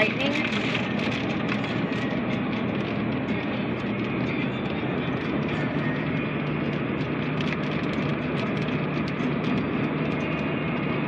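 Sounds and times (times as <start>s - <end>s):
heavy rain on car roof: 0.0s - 5.8s, 6.4s - 11.0s
car engine and road noise: 0.0s - 11.0s.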